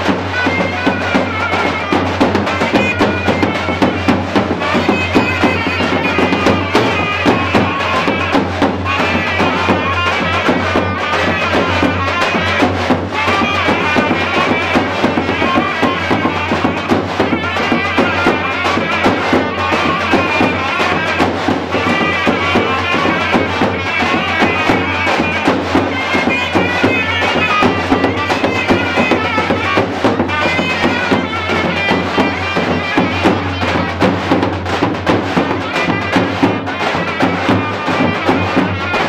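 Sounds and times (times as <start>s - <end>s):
fast dense drum beat: 0.0s - 39.0s.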